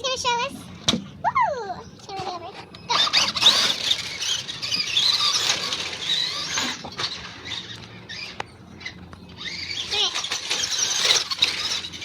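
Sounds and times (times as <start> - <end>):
rc car motor whining: 2.2 - 12.0.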